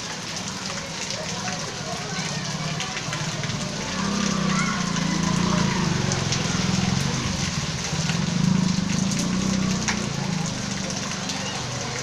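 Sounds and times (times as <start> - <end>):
rain pattering on street: 0.0 - 12.0.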